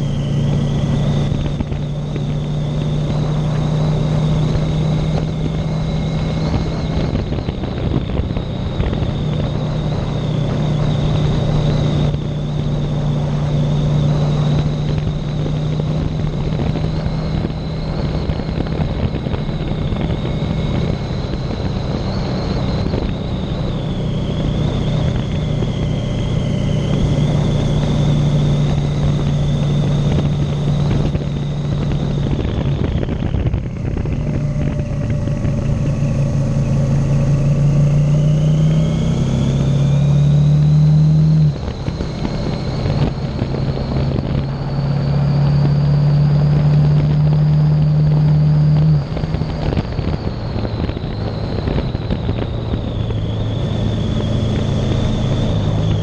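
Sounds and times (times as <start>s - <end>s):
motorcycle engine cruising: 0.0s - 56.0s
wind and tyre noise: 0.0s - 56.0s.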